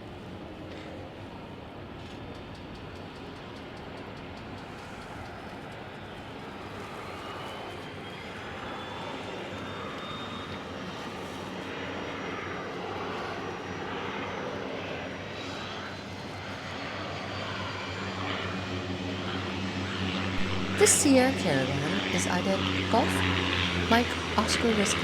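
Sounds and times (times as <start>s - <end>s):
floatplane engine running: 1.3s - 25.0s.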